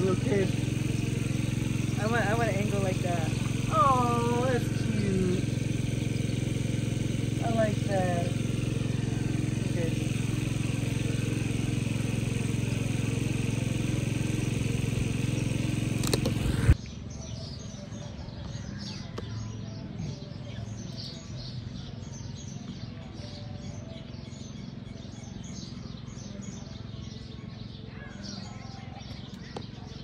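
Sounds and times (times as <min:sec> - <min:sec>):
birds chirping: 0:00.0 - 0:30.0
vehicle engine and road drone: 0:00.0 - 0:30.0.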